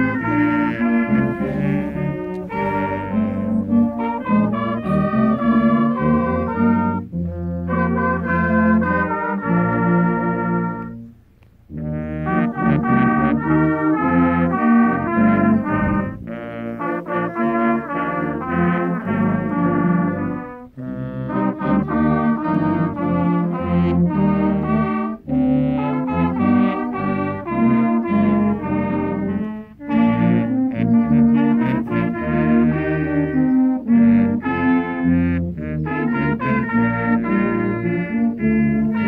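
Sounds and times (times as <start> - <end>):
brass choir playing held chords: 0.0 - 39.0.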